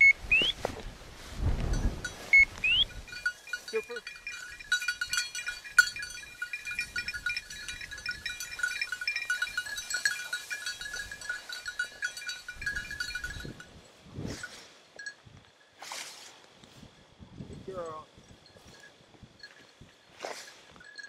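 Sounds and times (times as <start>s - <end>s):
dog collar bell jingling: 1.7s - 15.3s, 17.6s - 21.0s.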